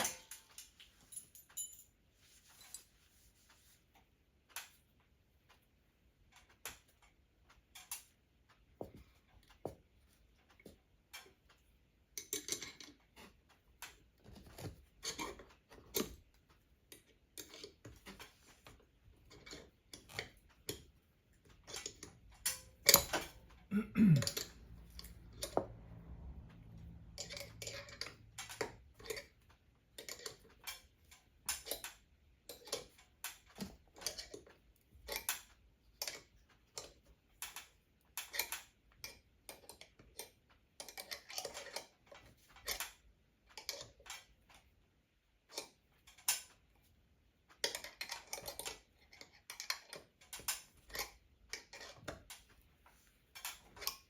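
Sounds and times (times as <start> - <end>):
hand tools clicking and tapping: 6.4 - 23.6, 24.2 - 44.7, 47.6 - 54.0.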